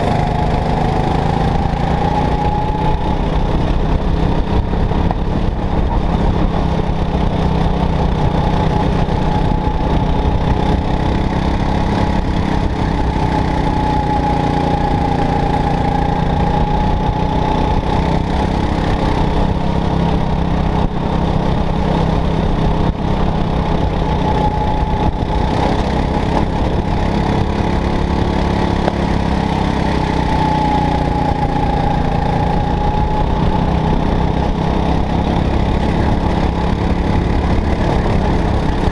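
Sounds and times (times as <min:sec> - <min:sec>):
go-kart engine racing: 0:00.0 - 0:38.9.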